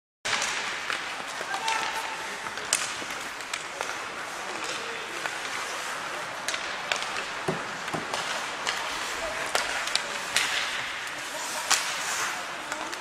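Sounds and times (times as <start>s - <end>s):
hockey sticks striking puck: 0.3s - 13.0s
skate blades scraping ice: 0.3s - 13.0s.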